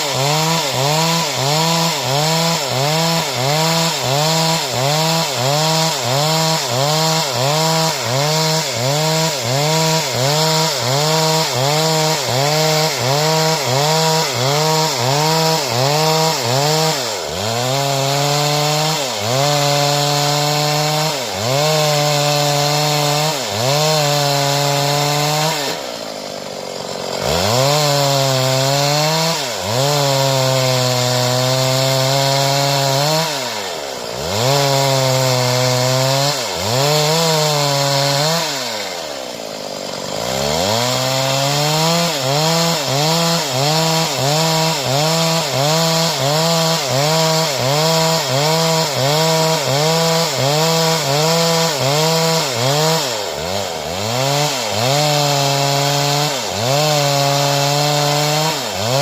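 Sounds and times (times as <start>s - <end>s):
chainsaw cutting a board: 0.0s - 59.0s.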